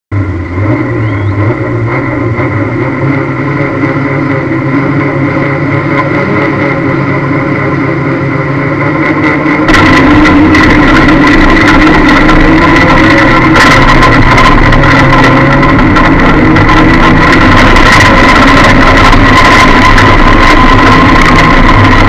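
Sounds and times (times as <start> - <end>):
car engine idling and revving: 0.1 - 22.0.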